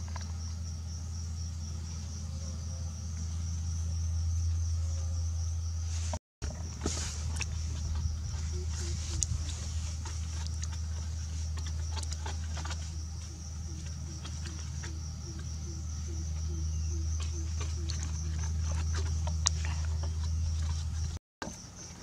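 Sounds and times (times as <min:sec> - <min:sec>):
steady low rumble: 0:00.0 - 0:21.2
high insect drone: 0:00.0 - 0:22.0.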